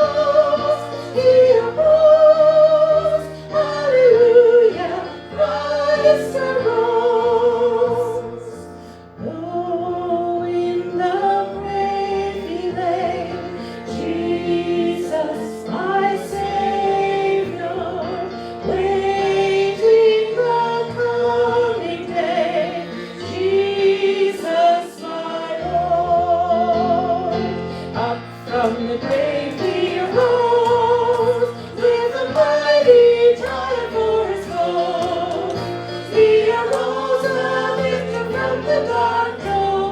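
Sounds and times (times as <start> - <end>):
instrumental accompaniment: 0.0 - 39.9
other voices singing: 0.0 - 39.9.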